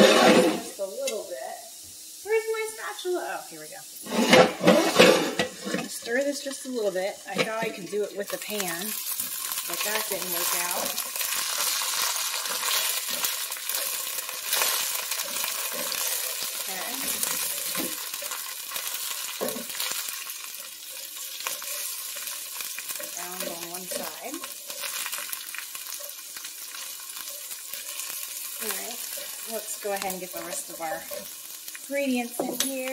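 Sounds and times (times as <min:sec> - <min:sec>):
spatula scraping a pan: 0:00.0 - 0:00.7, 0:04.0 - 0:32.9
potatoes sizzling in a pan: 0:00.0 - 0:32.9.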